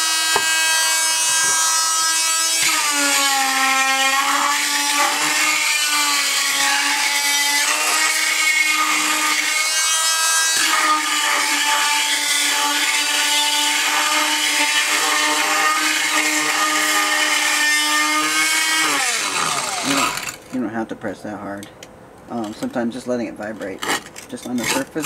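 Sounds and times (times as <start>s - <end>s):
multi-tool grinding mortar: 0.0s - 20.5s, 23.5s - 25.0s.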